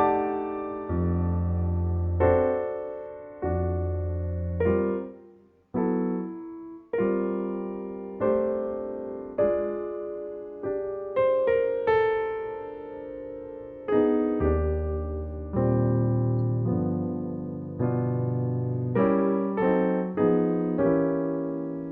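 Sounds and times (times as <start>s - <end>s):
slow piano chords: 0.0s - 21.9s.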